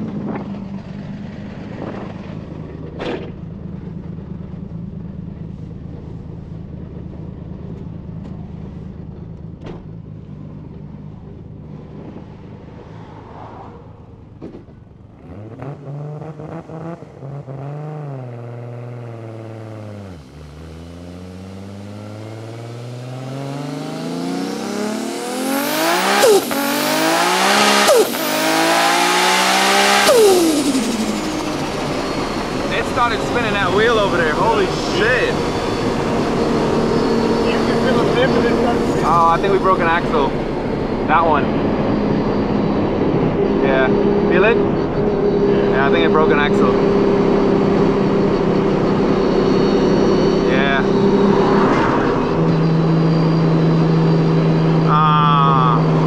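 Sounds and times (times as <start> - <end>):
car engine revving and accelerating: 0.0 - 56.0.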